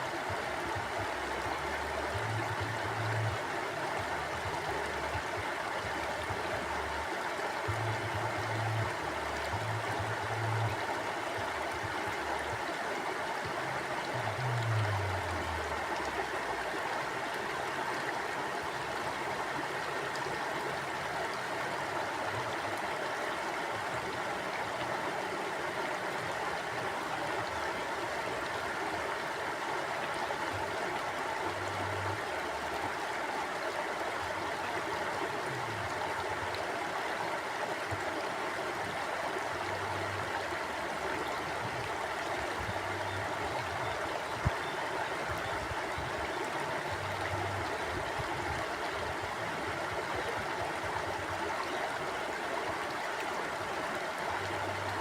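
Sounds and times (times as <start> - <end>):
stream flowing over rocks: 0.0 - 55.0
water gurgling: 0.0 - 55.0.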